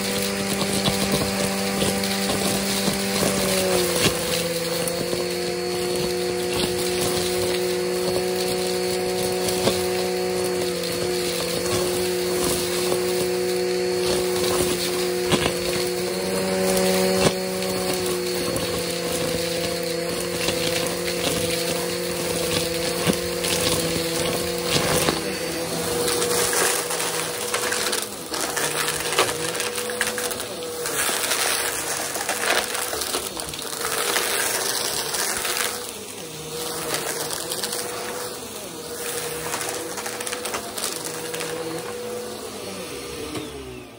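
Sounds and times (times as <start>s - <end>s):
debris crunching up vacuum hose: 0.0s - 43.9s
vacuum cleaner motor hum: 0.0s - 43.9s.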